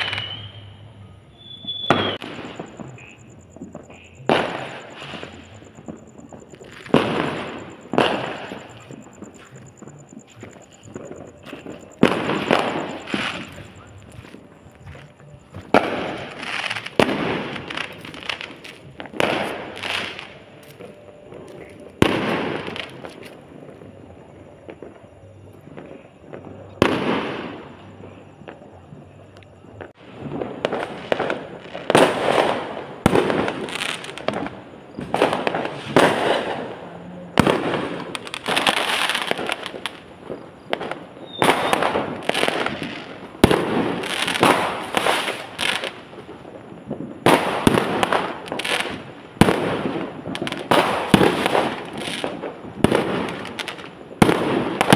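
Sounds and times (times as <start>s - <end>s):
fireworks bangs and crackling: 0.0s - 54.9s.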